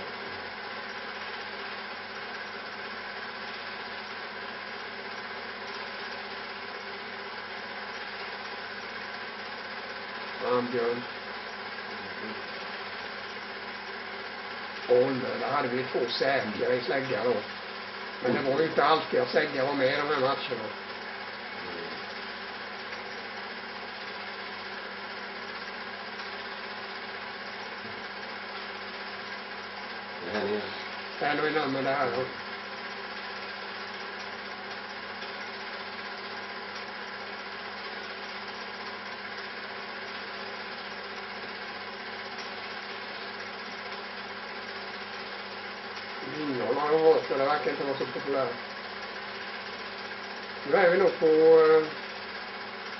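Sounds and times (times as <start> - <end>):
motor hum with hiss: 0.0 - 52.9.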